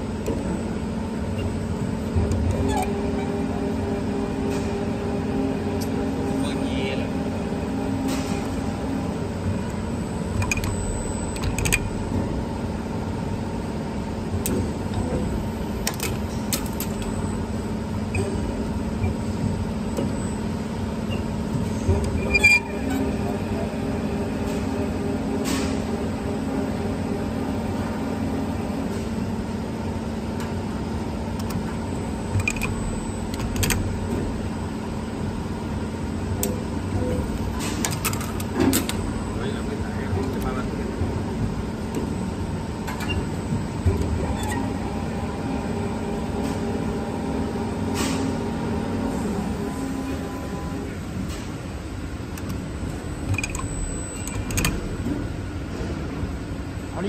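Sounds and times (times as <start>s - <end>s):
machine motor hum: 0.0s - 57.0s.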